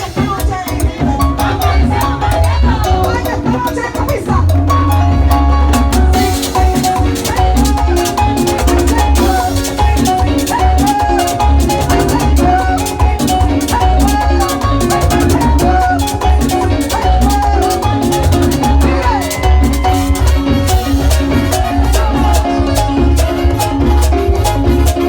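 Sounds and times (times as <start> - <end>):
latin dance music: 0.0 - 25.0.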